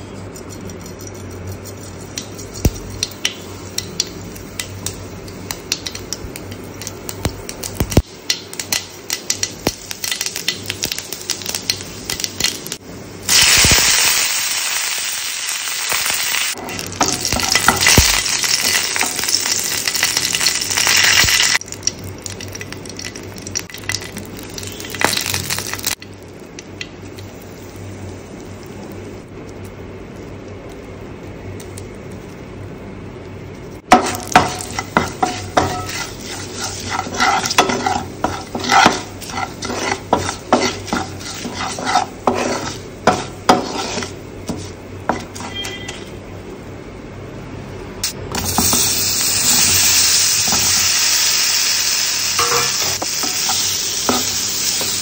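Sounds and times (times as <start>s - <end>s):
hot oil crackling and spitting: 0.0s - 46.6s, 48.0s - 55.0s
seeds frying sizzle: 0.0s - 55.0s.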